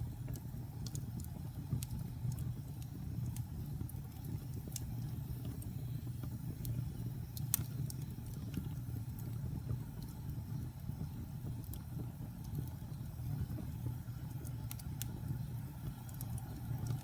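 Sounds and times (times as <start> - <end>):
fire crackles and pops: 0.0 - 17.0
fire rumbling in fireplace: 0.0 - 17.0.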